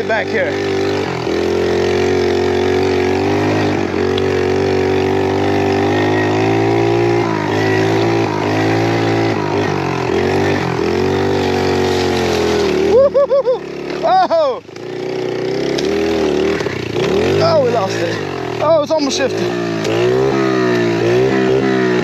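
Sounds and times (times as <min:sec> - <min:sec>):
pit bike engine revving: 0:00.0 - 0:22.0.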